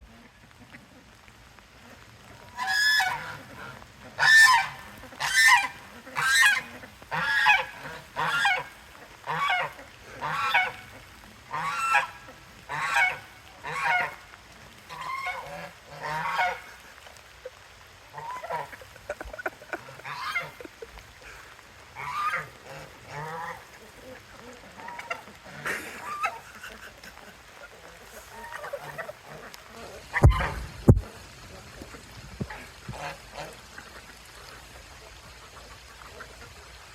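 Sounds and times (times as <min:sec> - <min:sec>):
goose honking: 0:01.8 - 0:17.0, 0:18.1 - 0:34.8.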